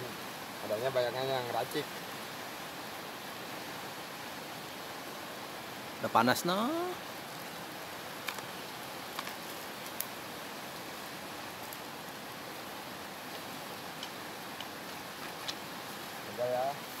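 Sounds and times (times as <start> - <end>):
river rushing: 0.0 - 17.0
wood fire crackling: 0.0 - 17.0.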